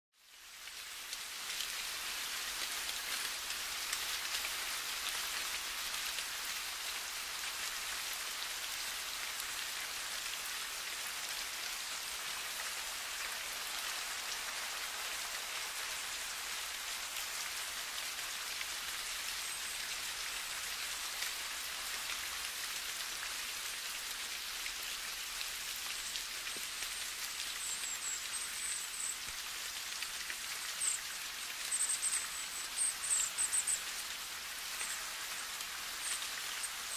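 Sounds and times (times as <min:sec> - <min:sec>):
steady rain: 0:00.1 - 0:36.9.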